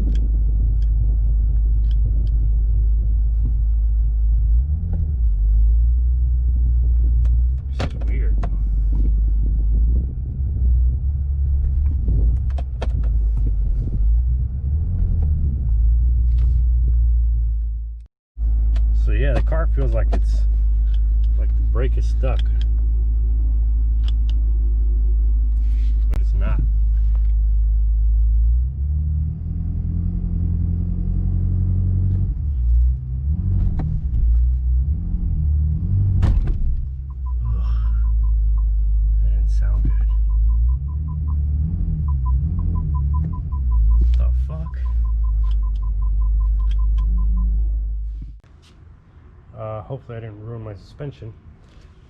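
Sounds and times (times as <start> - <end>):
car engine rumbling: 0.0 - 52.0.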